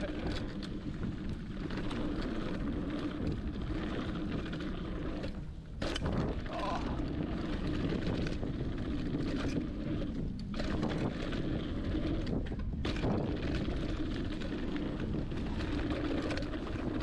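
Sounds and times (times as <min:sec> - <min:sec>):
bike clicks and rattles: 0:00.0 - 0:17.0
bike tyre noise on dirt: 0:00.0 - 0:17.0
wind buffeting microphone: 0:00.0 - 0:17.0.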